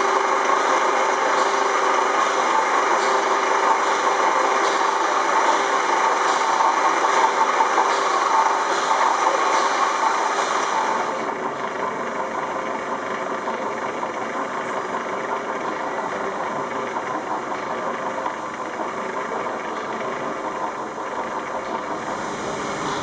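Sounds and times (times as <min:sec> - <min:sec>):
engine motor hum and rumble: 0:00.0 - 0:23.0.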